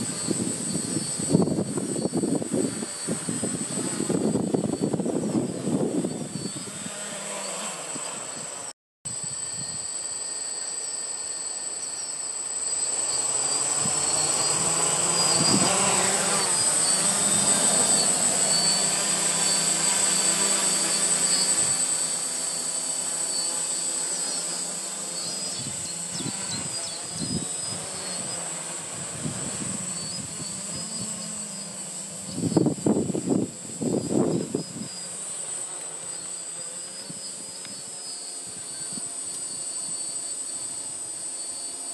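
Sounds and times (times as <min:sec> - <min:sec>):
quadcopter motors buzzing: 0:00.0 - 0:41.9.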